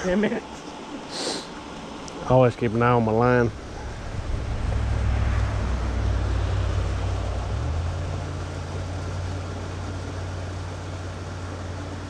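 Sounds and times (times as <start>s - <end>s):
motor engine droning: 2.2s - 12.0s.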